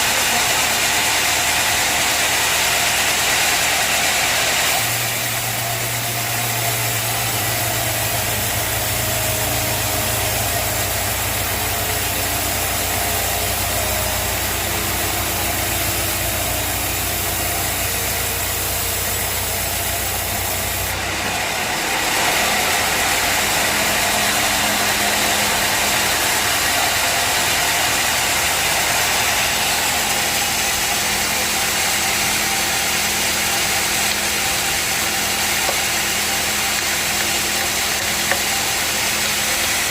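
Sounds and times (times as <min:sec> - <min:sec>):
hissy high-pitched machine noise: 0:00.0 - 0:39.9
sawmill machinery humming: 0:00.0 - 0:39.9.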